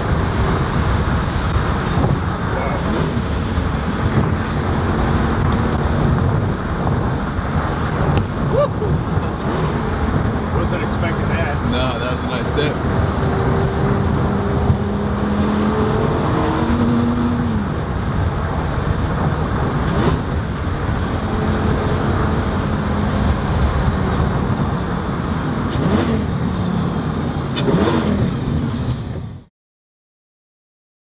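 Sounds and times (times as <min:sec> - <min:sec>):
car engine droning: 0:00.0 - 0:29.4.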